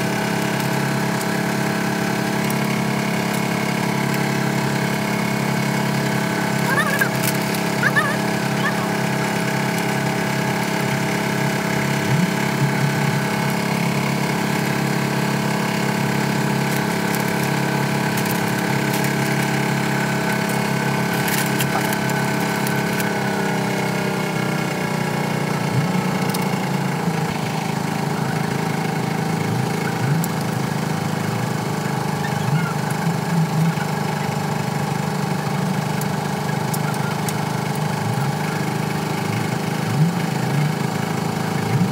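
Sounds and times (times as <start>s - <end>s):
diesel truck engine idling: 0.0s - 41.9s.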